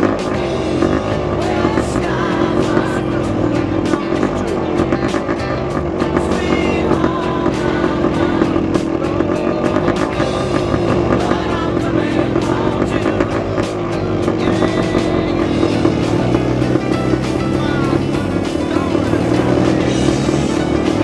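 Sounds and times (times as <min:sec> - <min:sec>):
dirt bike engine running: 0:00.0 - 0:21.0
music playing: 0:00.0 - 0:21.0.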